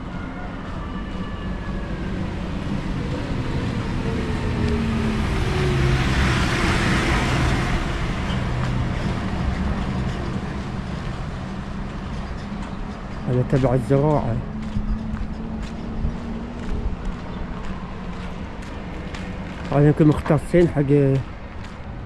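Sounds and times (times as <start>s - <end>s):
low traffic rumble: 0.0s - 22.0s
vehicle passing: 1.8s - 22.0s.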